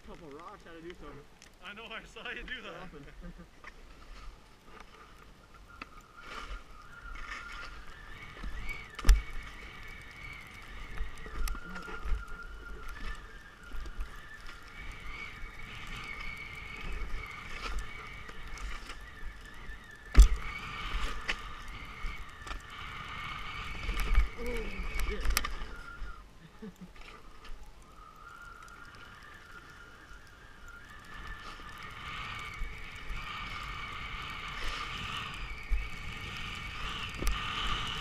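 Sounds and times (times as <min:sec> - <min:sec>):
skis sliding on snow: 0:00.0 - 0:05.5, 0:06.2 - 0:25.9, 0:30.8 - 0:38.0.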